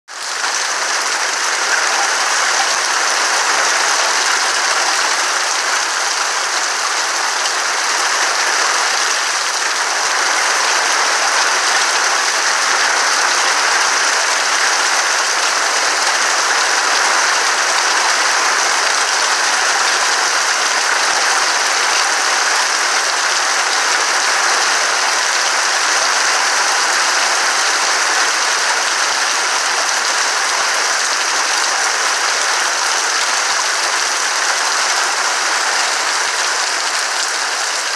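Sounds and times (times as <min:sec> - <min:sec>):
rain on leaves: 0:00.1 - 0:37.9.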